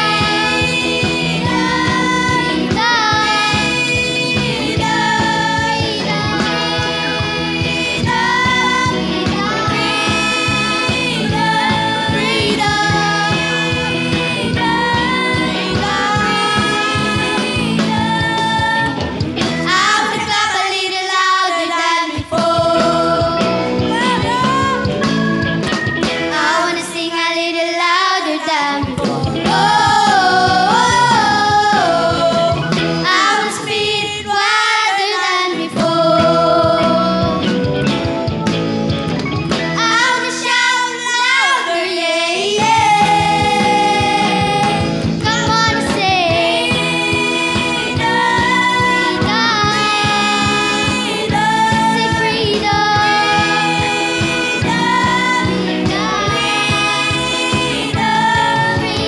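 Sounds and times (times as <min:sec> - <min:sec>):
children's choir singing: 0:00.0 - 0:25.2, 0:26.2 - 0:37.7, 0:39.8 - 0:59.0
musical accompaniment: 0:00.0 - 0:59.0.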